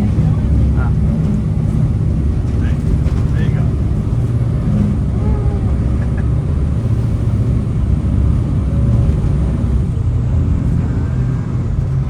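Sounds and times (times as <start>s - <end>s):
boat engines rumbling: 0.0s - 12.0s.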